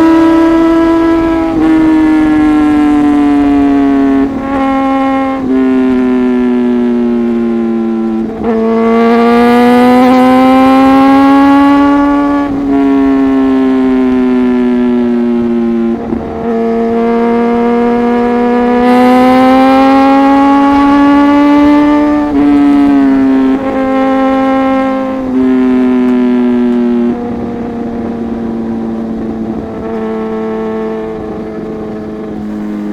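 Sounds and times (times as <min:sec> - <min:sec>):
motorcycle engine at high revs: 0:00.0 - 0:32.9.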